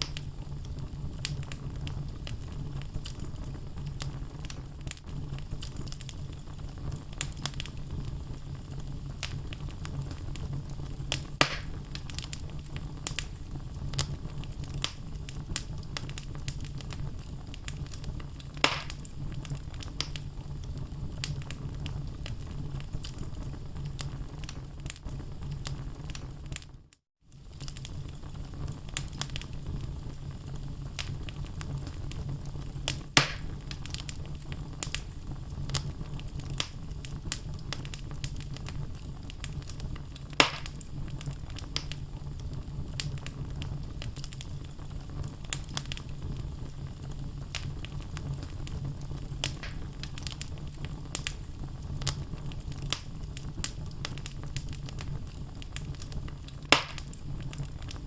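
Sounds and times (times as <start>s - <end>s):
logs crackling in fireplace: 0.0s - 58.0s
low rumble of flame: 0.0s - 58.0s.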